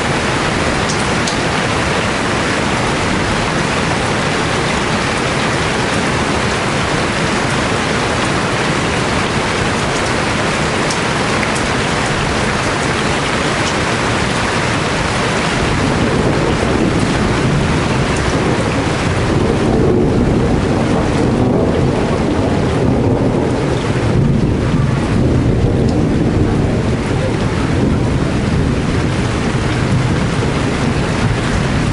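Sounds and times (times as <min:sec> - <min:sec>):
deep rumble: 0:00.0 - 0:31.9
heavy rain pouring: 0:00.0 - 0:31.9.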